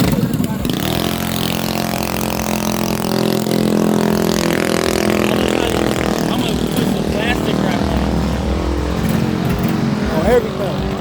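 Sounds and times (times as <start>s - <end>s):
mini bike engine running: 0.0s - 11.0s.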